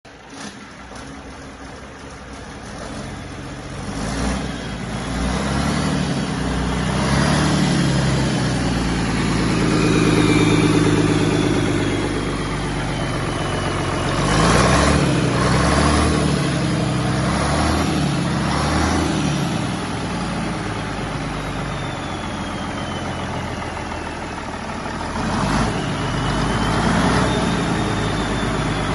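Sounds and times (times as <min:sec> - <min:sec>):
diesel engine revving: 0:00.1 - 0:28.9
high whine gliding down: 0:03.1 - 0:28.9.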